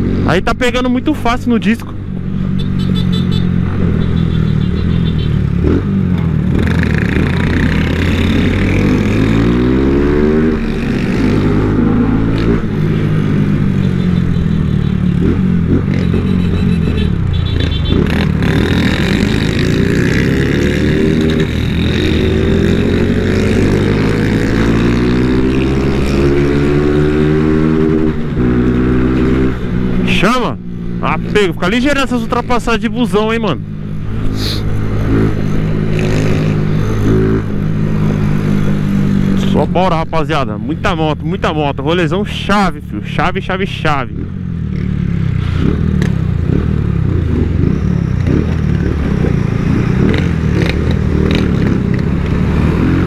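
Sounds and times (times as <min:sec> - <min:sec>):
motorcycle engine accelerating: 0:01.9 - 0:39.8, 0:44.0 - 0:53.0.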